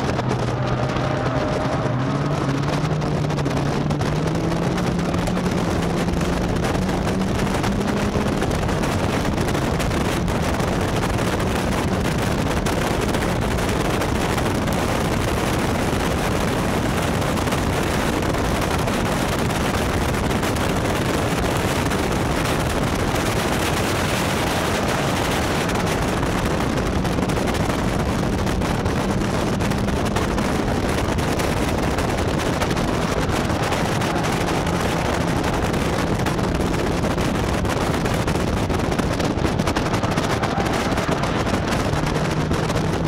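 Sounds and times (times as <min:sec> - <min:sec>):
heavy wind noise on microphone: 0:00.0 - 0:43.0
race car engine running hard: 0:00.0 - 0:43.0.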